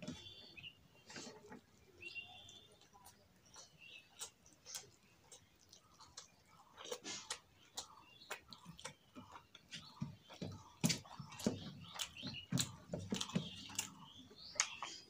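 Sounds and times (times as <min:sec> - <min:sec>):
wet chewing and lip smacks: 0:01.1 - 0:15.0.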